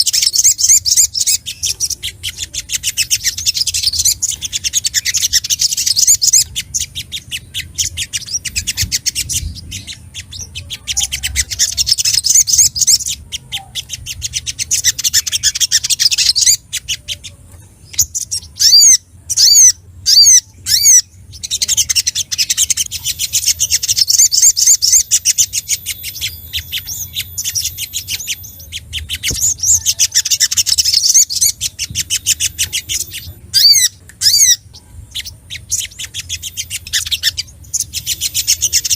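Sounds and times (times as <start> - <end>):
bird chattering trills: 0.0 - 38.9.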